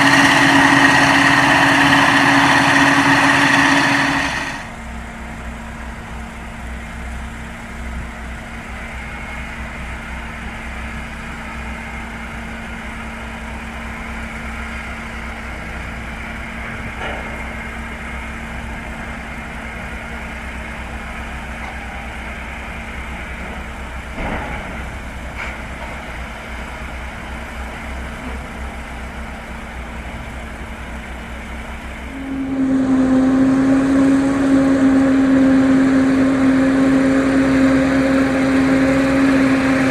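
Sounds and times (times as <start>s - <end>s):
farm machinery engine hum: 0.0s - 39.9s
machine drone: 0.0s - 39.9s.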